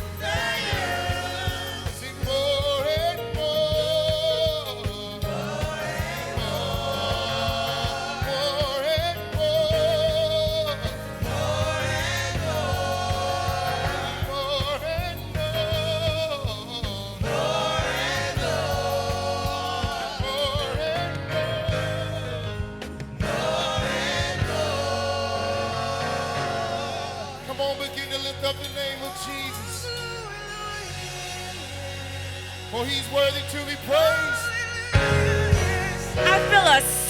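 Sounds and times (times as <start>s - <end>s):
band accompaniment: 0.0s - 37.0s
gospel choir singing: 0.0s - 37.0s.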